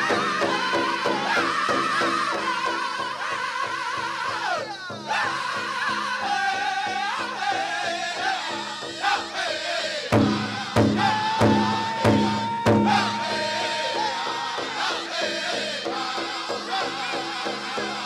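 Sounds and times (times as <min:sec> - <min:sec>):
big drum beats: 0:00.0 - 0:18.0
group singing in high voices: 0:00.0 - 0:18.0.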